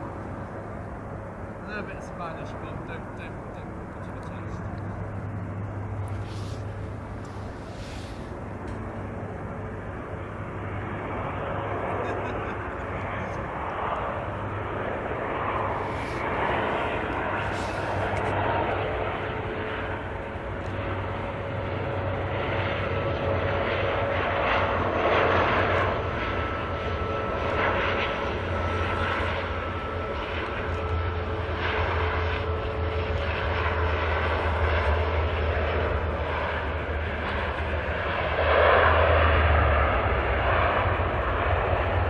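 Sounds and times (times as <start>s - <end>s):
turboprop engines droning: 0.0s - 42.0s.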